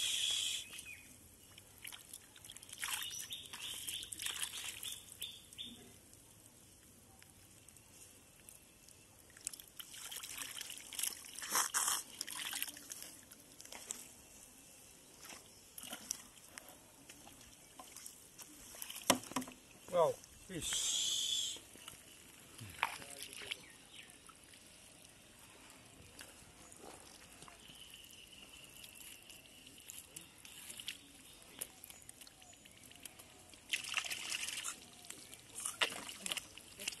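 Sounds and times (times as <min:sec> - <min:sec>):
mud squelching and splashing: 0:00.2 - 0:20.5, 0:21.8 - 0:37.0.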